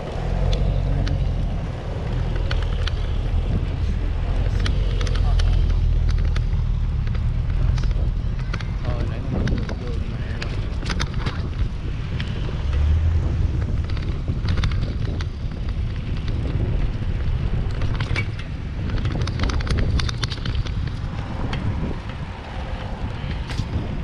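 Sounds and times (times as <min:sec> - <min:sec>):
sharp clicks and rattles: 0:00.0 - 0:24.0
tyre rumble on asphalt: 0:00.0 - 0:24.0
wind buffeting microphone: 0:00.0 - 0:24.0.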